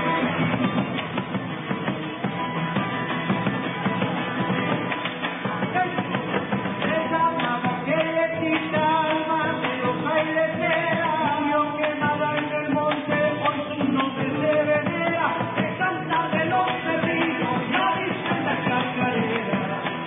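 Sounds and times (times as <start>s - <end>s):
strummed acoustic guitars: 0.0s - 20.0s.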